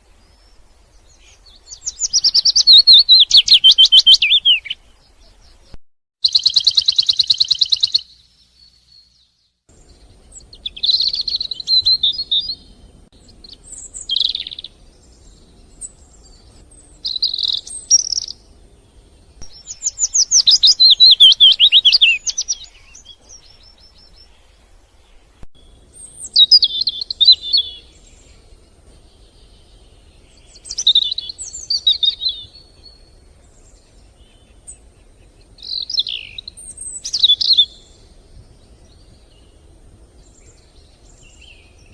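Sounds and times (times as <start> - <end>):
outdoor background noise: 0.0 - 41.9
songbird chirping: 0.0 - 41.9.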